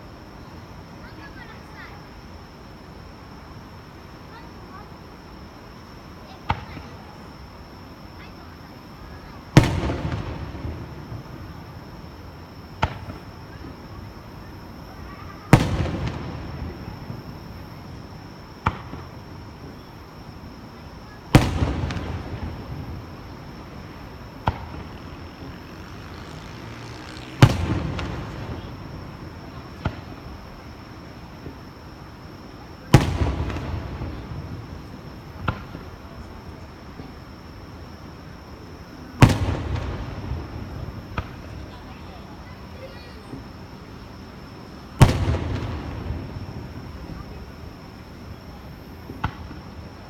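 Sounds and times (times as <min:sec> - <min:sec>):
sharp firework report: 0:00.0 - 0:50.0
fireworks booming and crackling: 0:06.2 - 0:50.0.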